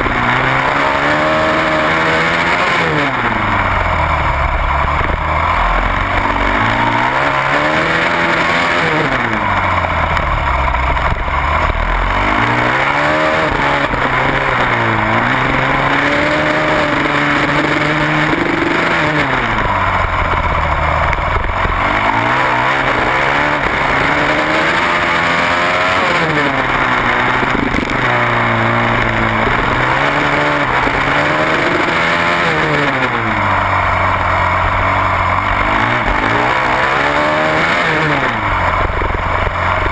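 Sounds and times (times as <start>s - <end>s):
wind noise: 0.0s - 33.4s
motorcycle engine accelerating: 0.0s - 39.9s.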